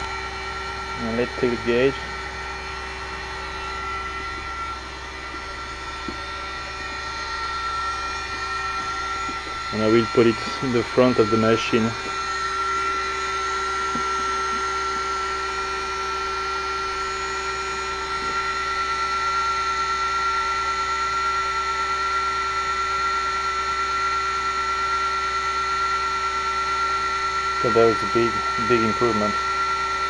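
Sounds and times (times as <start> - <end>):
spindle motor whining: 0.0 - 30.0.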